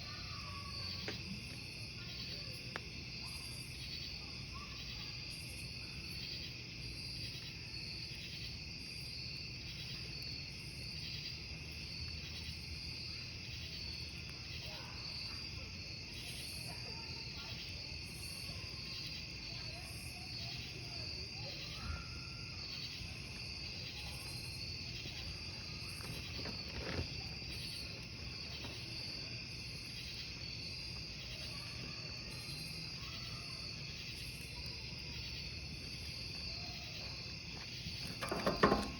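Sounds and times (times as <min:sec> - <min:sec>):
burning wood crackles: 0:00.0 - 0:38.9
campfire burning: 0:00.0 - 0:38.9
crickets chirping: 0:00.0 - 0:38.9.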